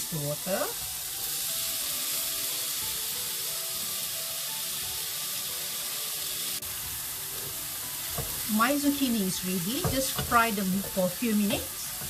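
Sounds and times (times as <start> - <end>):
zucchini sizzling in a pan: 0.0 - 12.0.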